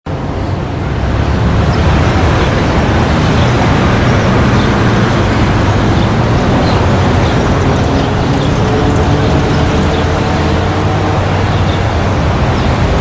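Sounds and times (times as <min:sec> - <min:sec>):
street traffic rumble: 0:00.1 - 0:13.0.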